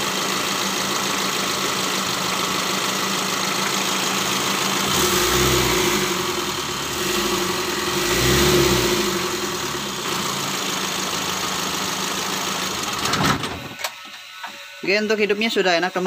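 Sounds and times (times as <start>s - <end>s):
diesel engine idling: 0.0s - 13.2s.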